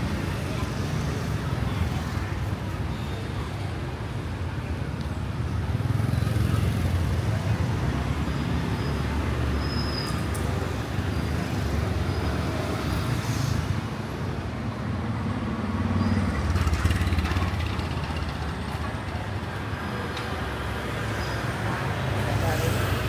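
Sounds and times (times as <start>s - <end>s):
passing traffic rumble: 0.0s - 23.0s.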